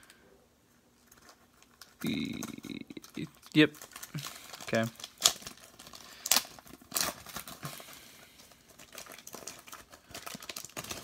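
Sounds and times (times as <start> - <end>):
paper wrapper tearing and crinkling: 1.0 - 11.0.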